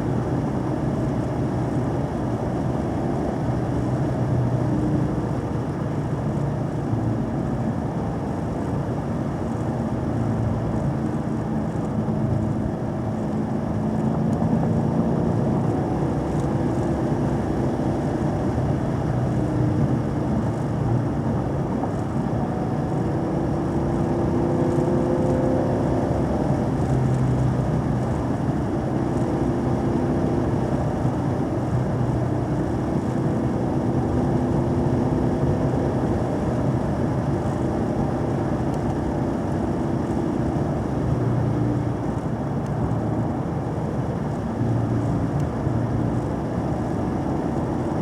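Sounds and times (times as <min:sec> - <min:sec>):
road noise: 0:00.0 - 0:48.0.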